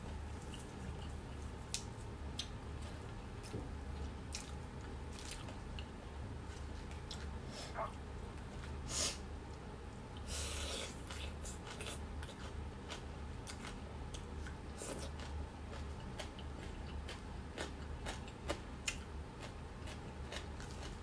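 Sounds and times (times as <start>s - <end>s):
crunchy chewing of greens: 0.1s - 8.8s, 10.2s - 21.0s.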